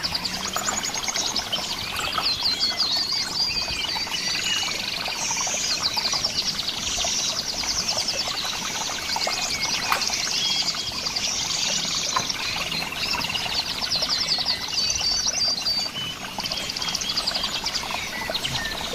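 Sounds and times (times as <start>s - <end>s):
birds: 0.0s - 18.9s.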